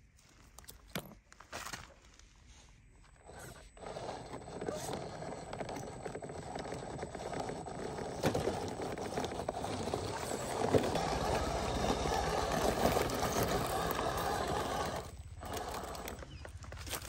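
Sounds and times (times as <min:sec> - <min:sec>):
toy car drivetrain whir: 0:03.2 - 0:17.0
tyres scraping on rock: 0:03.3 - 0:17.0.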